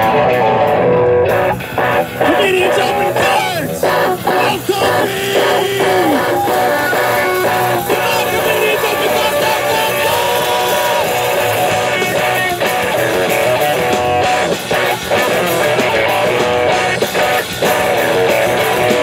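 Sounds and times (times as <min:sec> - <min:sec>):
drum kit: 0:00.0 - 0:19.0
electric guitars: 0:00.0 - 0:19.0.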